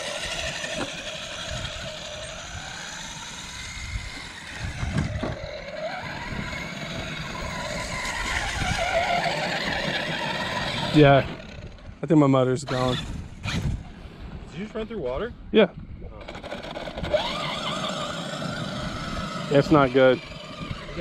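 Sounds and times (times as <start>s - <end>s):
electric motor whining: 0.0s - 12.0s, 12.6s - 13.8s, 16.0s - 21.0s.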